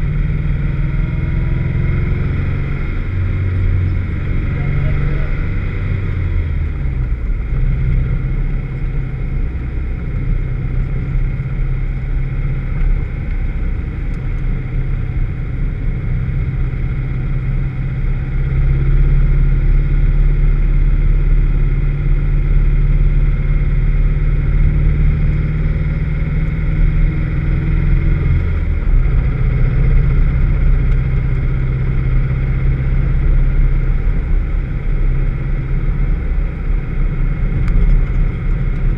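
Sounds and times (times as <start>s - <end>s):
misfiring car engine running: 0.0s - 38.9s.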